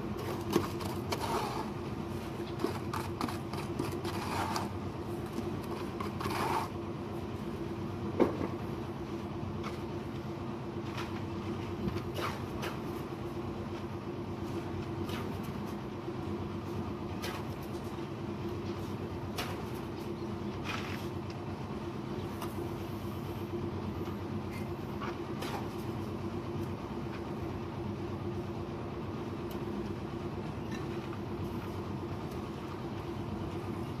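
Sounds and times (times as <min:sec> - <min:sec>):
low machine drone: 0:00.0 - 0:34.0.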